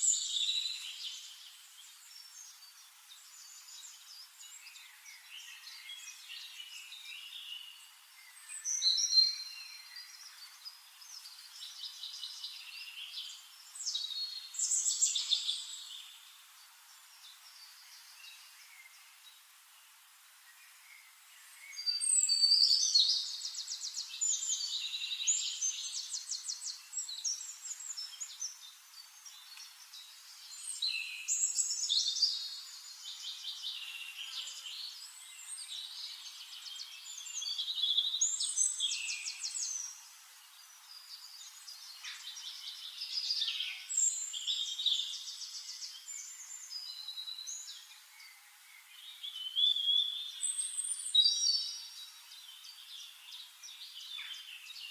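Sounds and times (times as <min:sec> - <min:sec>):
songbirds trilling and chirping: 0:00.0 - 0:54.9.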